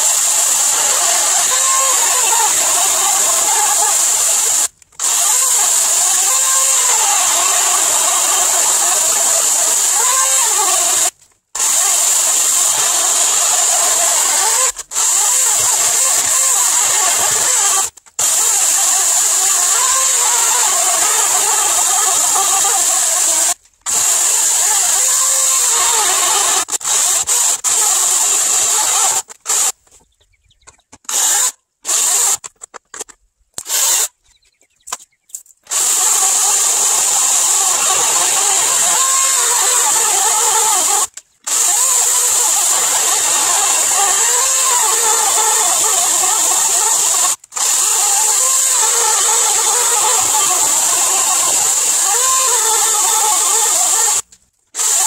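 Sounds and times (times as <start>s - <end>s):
electric chainsaw cutting log: 0.0s - 29.8s, 31.1s - 32.4s, 33.6s - 34.1s, 35.7s - 55.0s.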